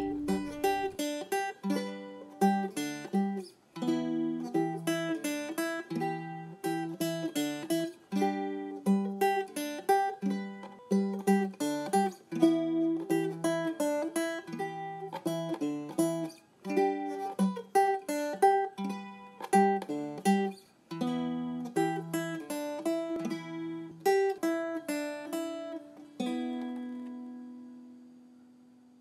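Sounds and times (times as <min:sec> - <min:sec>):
plucked string instrument melody: 0:00.0 - 0:28.2.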